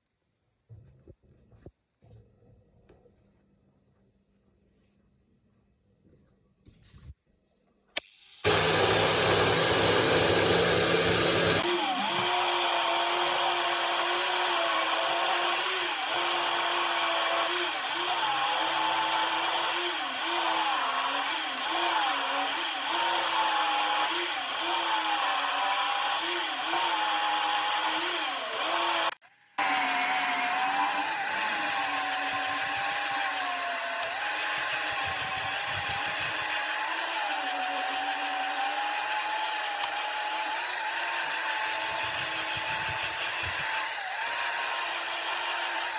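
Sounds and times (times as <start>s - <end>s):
power tool motor running: 8.0s - 45.9s.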